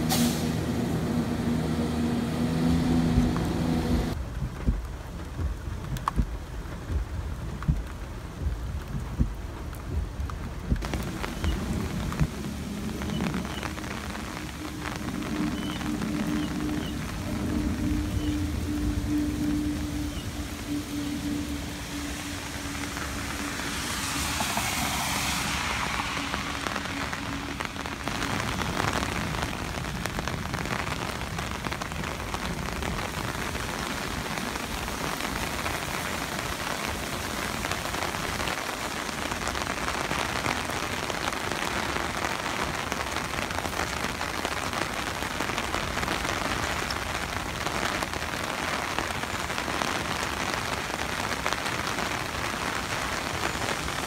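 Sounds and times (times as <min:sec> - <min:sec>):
heavy rain hissing: 0:00.0 - 0:54.0
rushing floodwater: 0:00.0 - 0:54.0.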